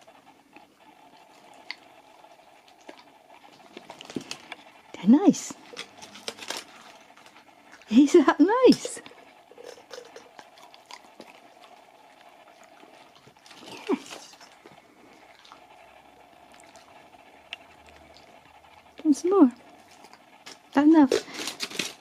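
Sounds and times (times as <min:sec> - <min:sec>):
dog vocal sound: 0:00.0 - 0:21.4
dog chewing and licking: 0:00.0 - 0:22.0.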